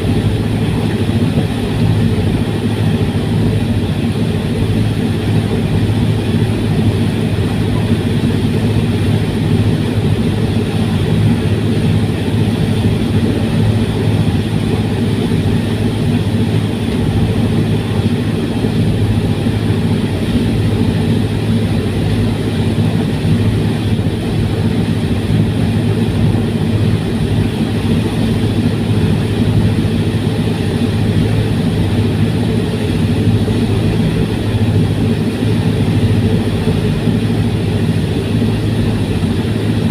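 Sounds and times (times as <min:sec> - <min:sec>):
ferry engines droning: 0:00.0 - 0:39.9.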